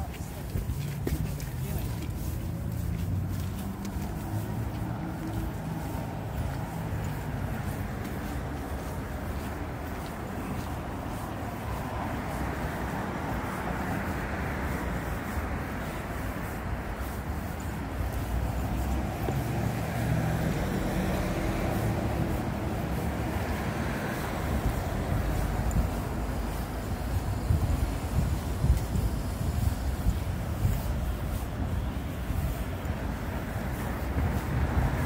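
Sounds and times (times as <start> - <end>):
street traffic passing: 0.0 - 35.0.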